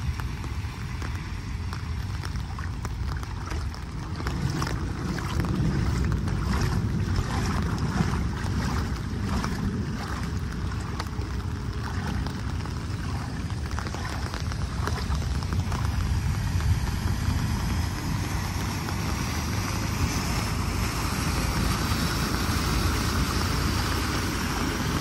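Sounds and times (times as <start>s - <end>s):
rain and floodwater: 0.0s - 25.0s
small water splashes: 0.0s - 25.0s
wind buffeting microphone: 0.0s - 25.0s.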